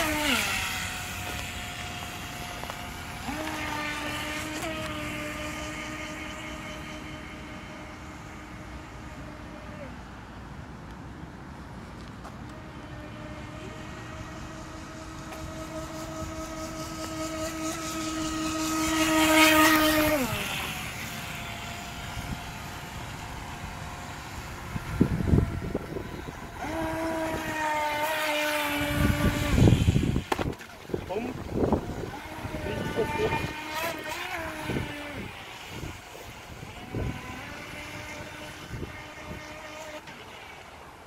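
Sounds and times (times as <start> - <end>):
electric boat motor whine: 0.0 - 41.0.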